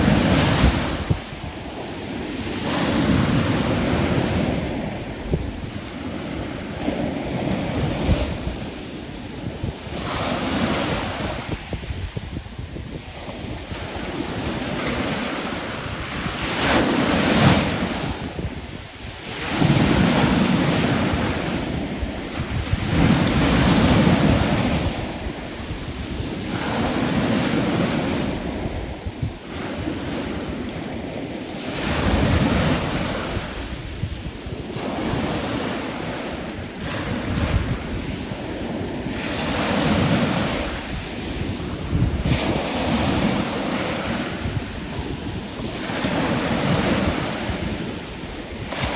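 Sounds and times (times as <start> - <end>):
sea waves breaking: 0.0 - 48.9
wind rumbling on microphone: 0.0 - 48.9.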